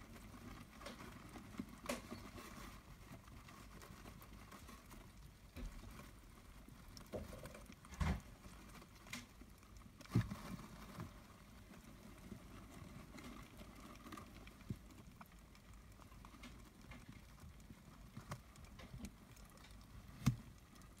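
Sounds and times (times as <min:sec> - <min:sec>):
hamsters rustling in bedding: 0:00.0 - 0:21.0
small clicks and knocks: 0:00.1 - 0:21.0.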